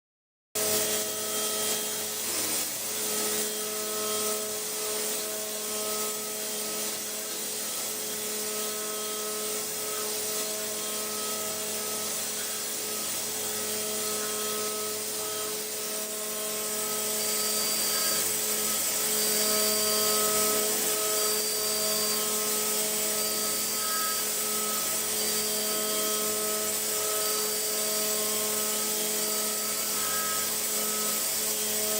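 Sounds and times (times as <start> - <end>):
hiss of cutting: 0.6 - 31.9
machine whining tones: 0.6 - 31.9
milling machine hum: 0.6 - 31.9.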